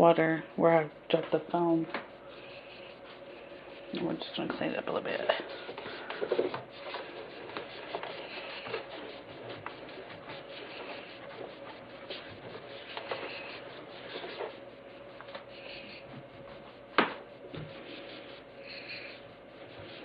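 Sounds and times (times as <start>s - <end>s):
cloth wiping inside microwave: 1.3s - 20.0s.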